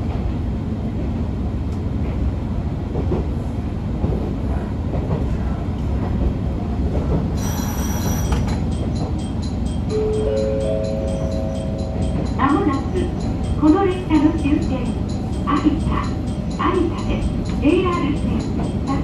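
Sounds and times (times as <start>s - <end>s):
train engine and wheels rumbling: 0.0s - 19.0s.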